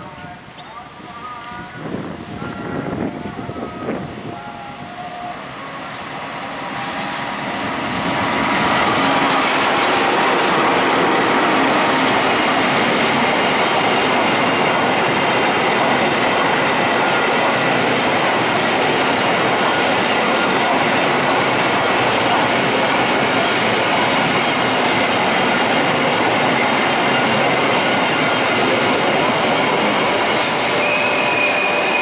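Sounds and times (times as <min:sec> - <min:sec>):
train wheels rolling on rails: 0:00.0 - 0:32.0
diesel locomotive engine running: 0:01.2 - 0:32.0.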